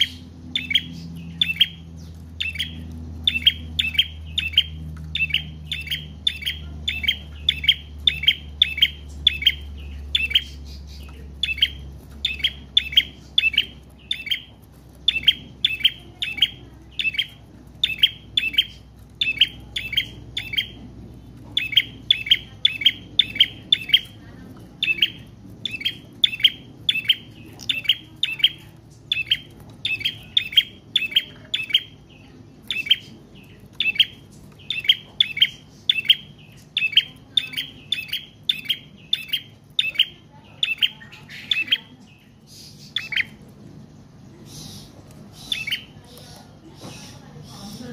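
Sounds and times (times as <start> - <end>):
bird singing sharp high chirps: 0.0 - 20.8, 21.4 - 43.4, 44.4 - 46.0.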